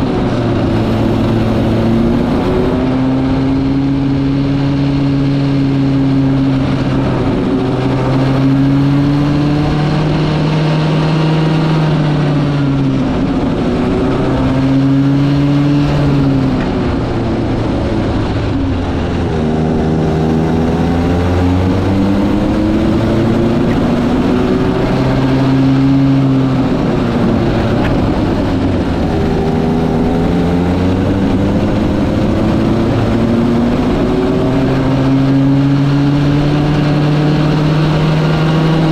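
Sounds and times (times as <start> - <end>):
go-kart engine: 0.0 - 38.9.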